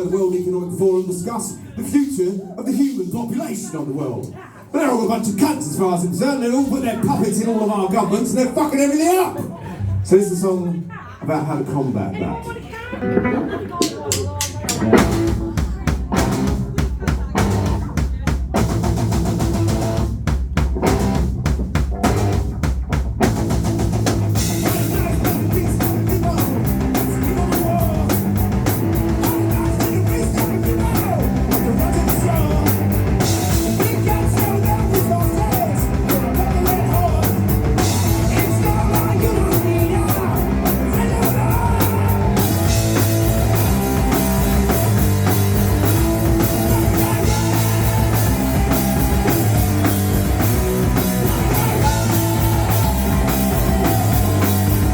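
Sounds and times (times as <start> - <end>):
punk rock band playing: 0.0 - 2.5, 12.1 - 54.9
drums: 0.0 - 54.9.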